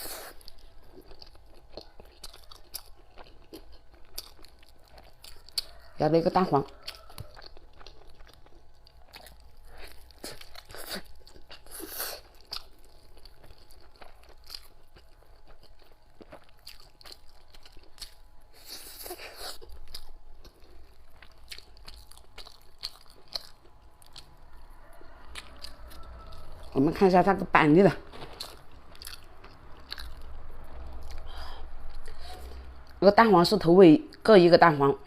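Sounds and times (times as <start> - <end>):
close-up chewing: 0.0 - 33.0.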